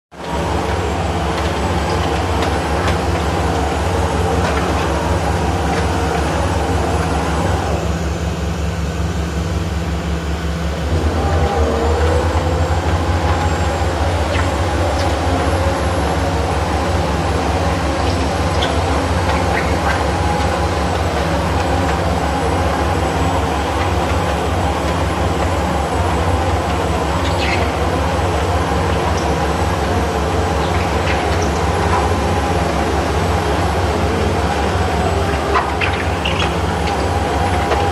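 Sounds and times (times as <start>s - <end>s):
diesel engine running: 0.2s - 37.9s.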